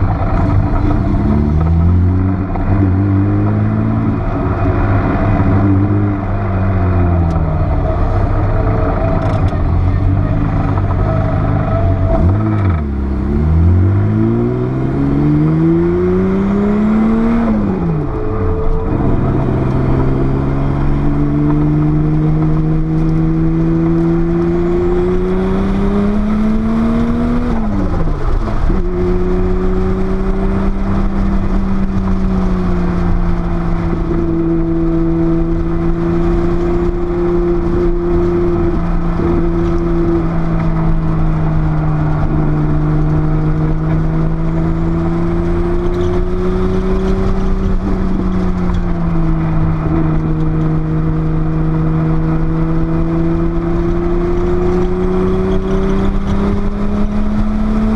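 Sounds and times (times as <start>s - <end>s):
car engine at speed: 0.0s - 57.9s
wind and road noise: 0.0s - 57.9s.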